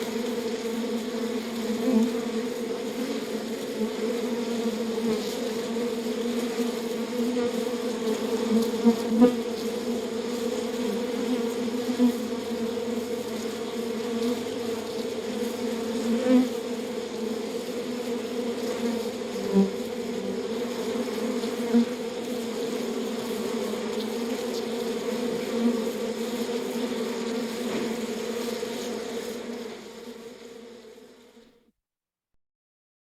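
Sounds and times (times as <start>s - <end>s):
bees droning: 0.0s - 31.2s
single bee buzzing: 0.0s - 31.6s.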